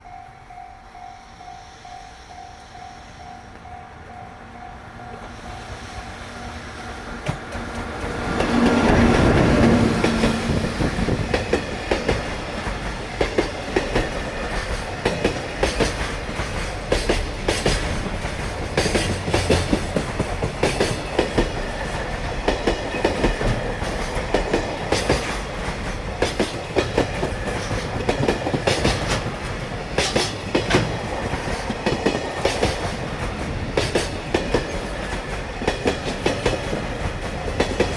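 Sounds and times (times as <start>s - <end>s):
electric locomotive passing: 0.0s - 37.9s
wagon wheels clickety-clack: 7.3s - 37.9s.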